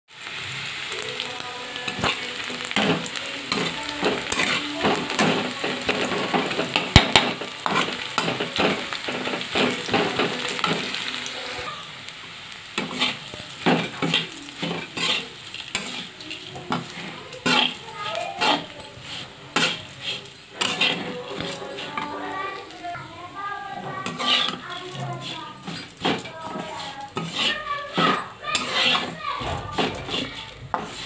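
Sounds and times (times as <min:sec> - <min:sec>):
onions sizzling in a pan: 0:00.1 - 0:31.0
metal spatula scraping a pan: 0:01.0 - 0:11.7, 0:12.8 - 0:31.0.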